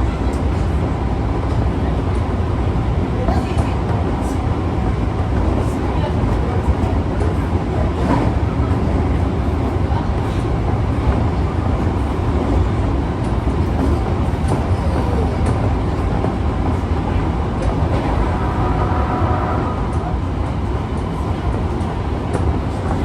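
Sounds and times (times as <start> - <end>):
subway car wheels rumbling: 0.0 - 23.0.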